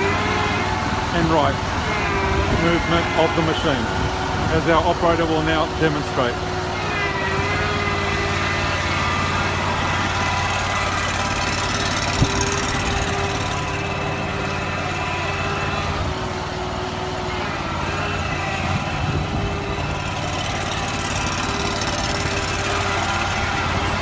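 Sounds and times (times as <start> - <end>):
loader engine running: 0.0 - 24.0
steady machine whine: 0.0 - 24.0.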